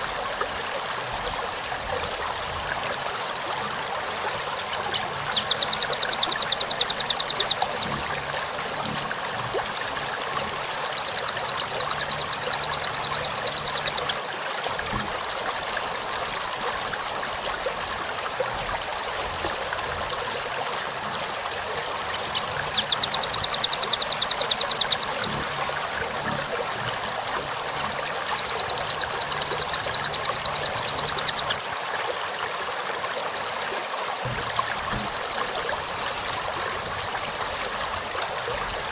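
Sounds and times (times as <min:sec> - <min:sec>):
bird singing rattling trills: 0:00.0 - 0:31.6, 0:34.2 - 0:38.9.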